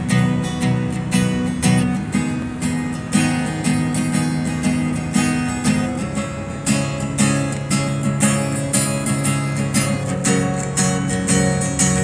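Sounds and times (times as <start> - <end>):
fingerstyle acoustic guitar: 0.0 - 12.0.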